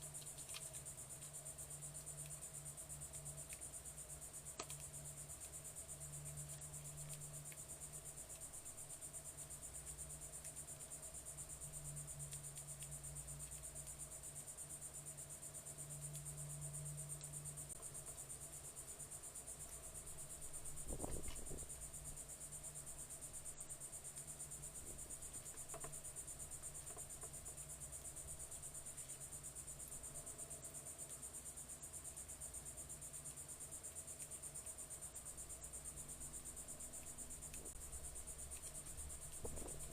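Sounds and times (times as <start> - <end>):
faint low hum: 0.0 - 39.9
insects trilling: 0.0 - 39.9.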